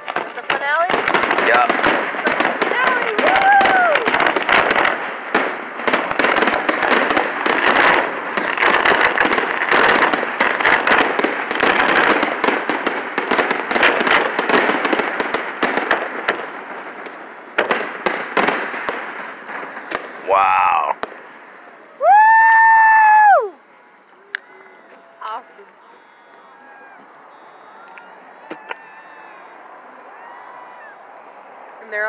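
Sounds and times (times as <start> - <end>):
fireworks bangs: 0.0 - 32.0
fireworks crackling and popping: 0.0 - 32.0.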